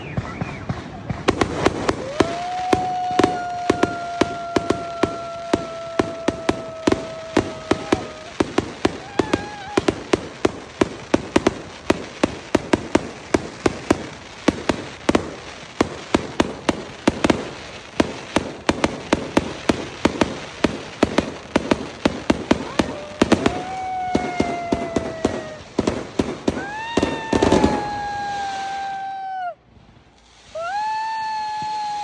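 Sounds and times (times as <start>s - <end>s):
fireworks popping and banging: 0.0s - 29.0s
firework whistling: 0.0s - 32.0s.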